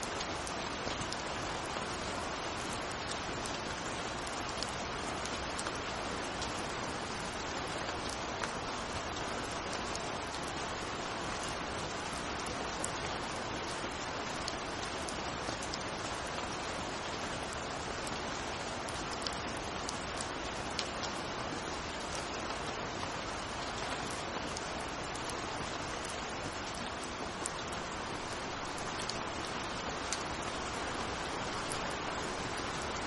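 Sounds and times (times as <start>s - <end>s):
raindrop ticks: 0.0s - 1.9s, 2.5s - 33.0s
steady rain falling: 0.0s - 33.0s.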